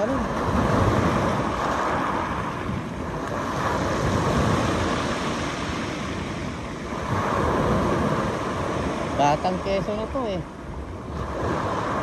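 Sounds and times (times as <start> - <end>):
surf breaking on beach: 0.0 - 12.0
wind on microphone: 0.0 - 12.0.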